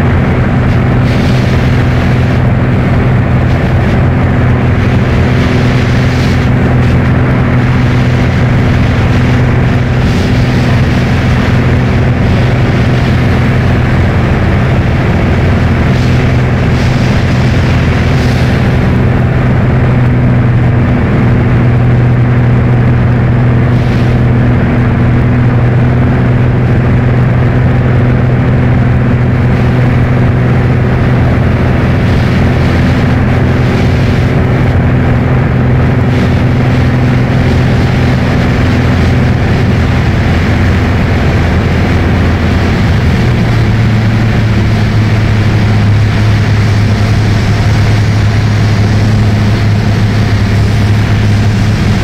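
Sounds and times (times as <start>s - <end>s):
airplane engine drone in cabin: 0.0s - 52.0s.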